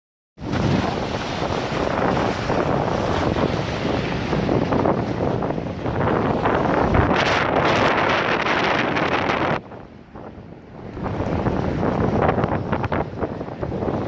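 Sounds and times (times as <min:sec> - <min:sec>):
wind buffeting microphone: 0:00.4 - 0:14.0.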